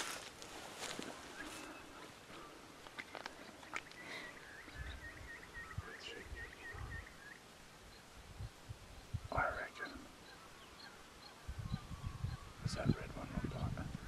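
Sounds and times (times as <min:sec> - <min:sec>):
bird chirping: 0:01.2 - 0:13.8.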